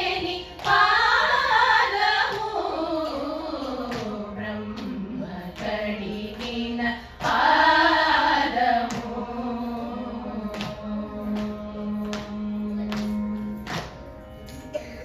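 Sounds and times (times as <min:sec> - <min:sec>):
women singing in unison: 0:00.0 - 0:13.9.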